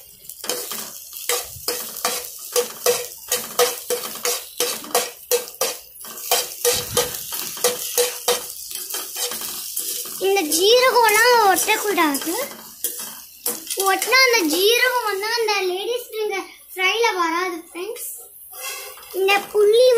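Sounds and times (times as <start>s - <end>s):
spoon scraping frying pan: 0.0s - 16.1s, 18.2s - 19.9s
frying sizzle: 0.0s - 19.9s.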